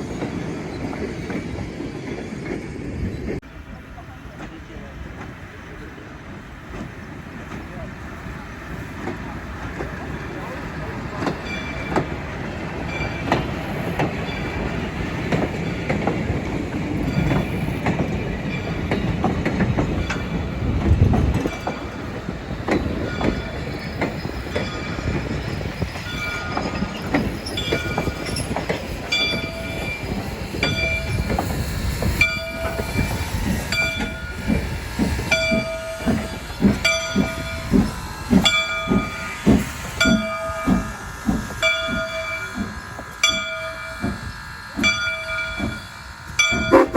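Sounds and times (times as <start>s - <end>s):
train passing: 0.0s - 46.9s.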